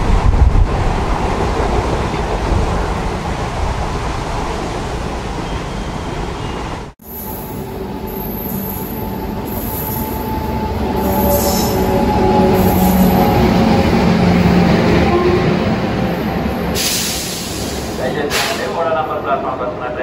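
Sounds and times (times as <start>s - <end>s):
train wheels and coaches rumbling: 0.0s - 20.0s.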